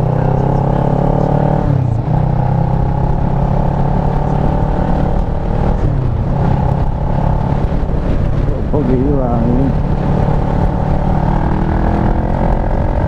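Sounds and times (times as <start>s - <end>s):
motorcycle engine cruising: 0.0s - 13.0s
wind rumble on microphone: 0.0s - 13.0s.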